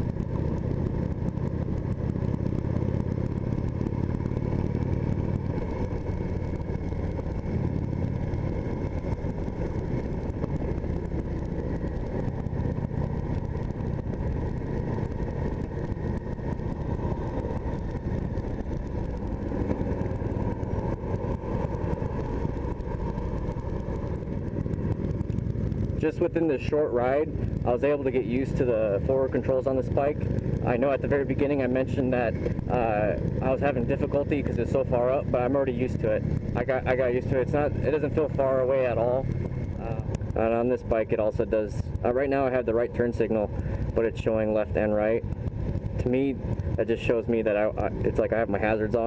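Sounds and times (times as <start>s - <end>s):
motorcycle engine cruising: 0.0s - 49.0s
road noise: 0.0s - 49.0s.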